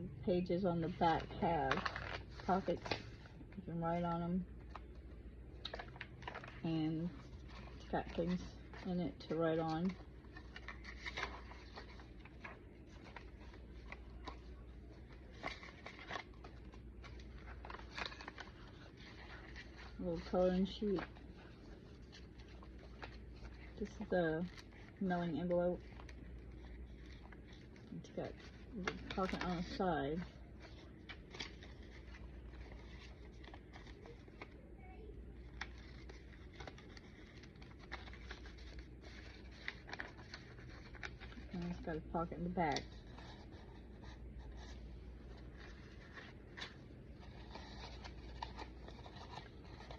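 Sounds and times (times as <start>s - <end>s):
steady low hum: 0.0s - 49.9s
paper pages rustling: 1.0s - 3.5s, 5.6s - 25.0s, 25.8s - 34.6s, 35.4s - 49.9s.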